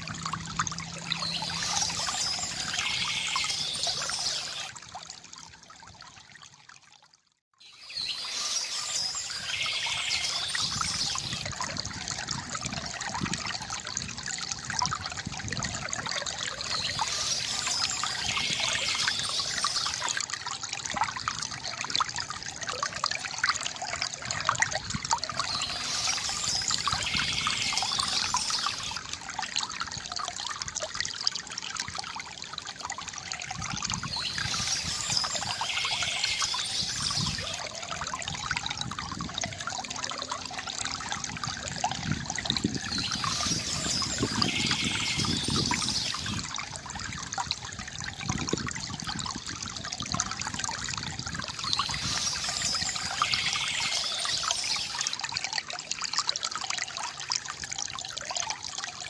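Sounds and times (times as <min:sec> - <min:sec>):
fountain water splashing into basin: 0:00.0 - 0:07.2, 0:07.8 - 0:59.0.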